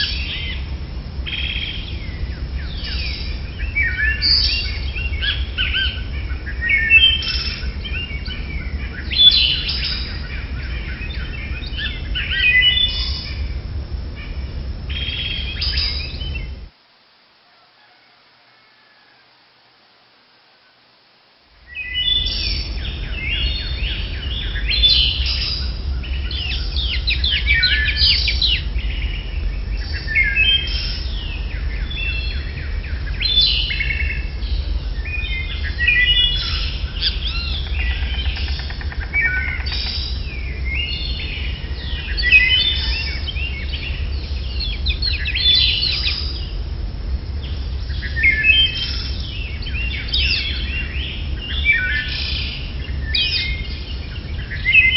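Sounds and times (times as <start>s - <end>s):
steady low rumble: 0.0s - 16.7s, 21.5s - 54.9s
birds chirping: 0.0s - 16.8s, 21.6s - 54.9s.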